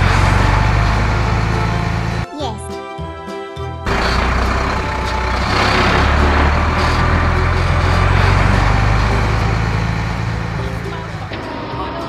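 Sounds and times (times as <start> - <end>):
heavy engine humming: 0.0 - 2.3, 3.9 - 12.0.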